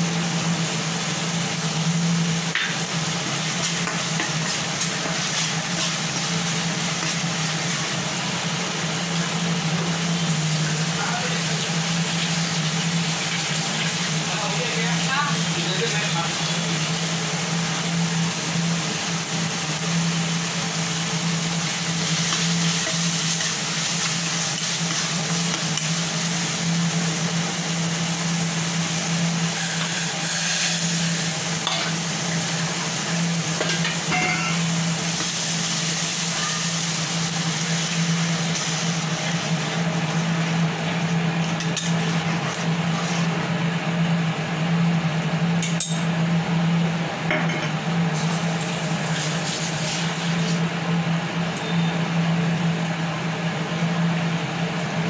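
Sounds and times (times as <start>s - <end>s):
curry sizzling in a wok: 0.0s - 55.0s.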